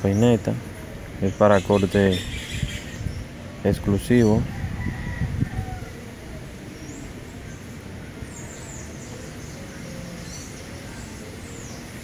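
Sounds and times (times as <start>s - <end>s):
small birds chirping: 0.0s - 12.0s
steady background noise: 0.0s - 12.0s.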